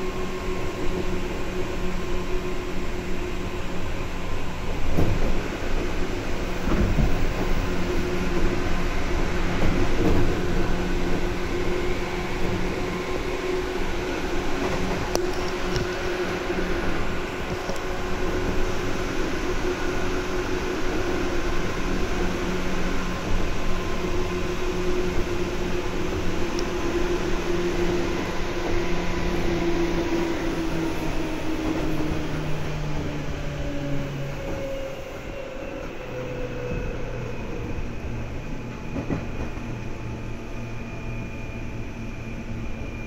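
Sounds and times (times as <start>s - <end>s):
wheels rumbling on rails: 0.0s - 43.0s.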